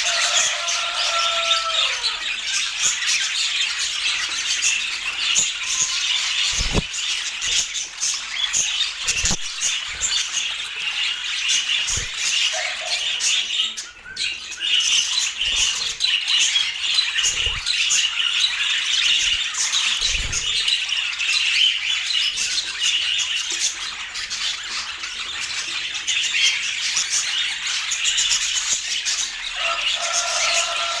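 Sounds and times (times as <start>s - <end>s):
budgerigars chattering and squawking: 0.0s - 31.0s.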